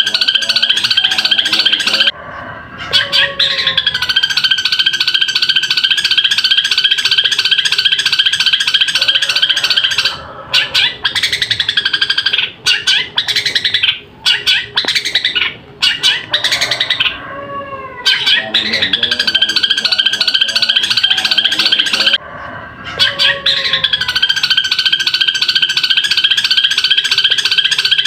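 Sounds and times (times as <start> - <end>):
shrike singing: 0.0 - 2.2, 2.8 - 17.2, 18.0 - 22.2, 23.0 - 28.0.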